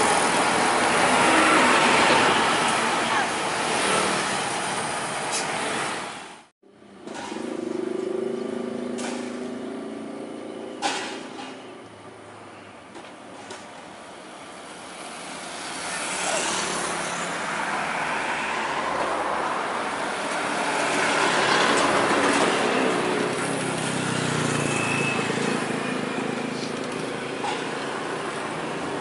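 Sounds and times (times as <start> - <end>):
bus driving past: 0.0 - 29.0.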